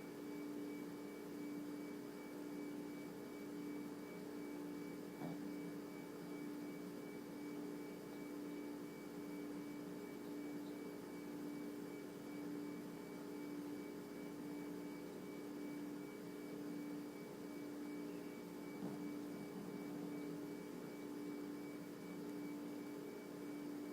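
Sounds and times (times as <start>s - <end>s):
steady electrical hum: 0.0s - 23.9s.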